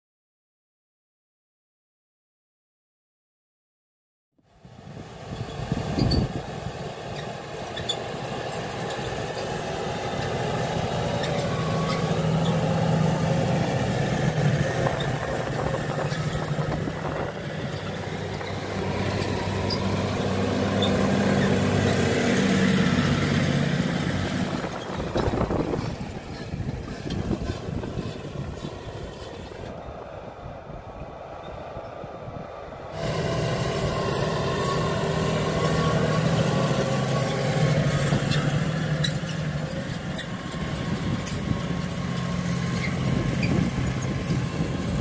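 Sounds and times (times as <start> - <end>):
tractor engine under load: 4.7 - 29.9, 32.9 - 45.0.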